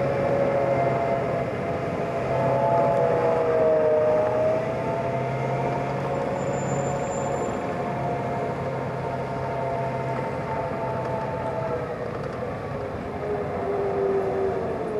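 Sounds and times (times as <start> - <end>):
armored vehicle engine whine: 0.0 - 14.9.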